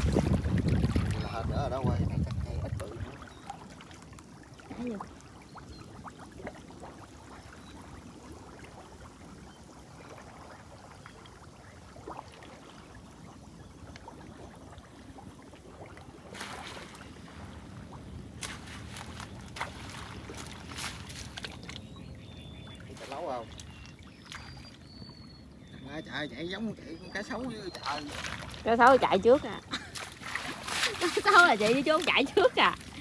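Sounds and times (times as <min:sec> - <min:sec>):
water sloshing around a boat: 0:00.0 - 0:33.0.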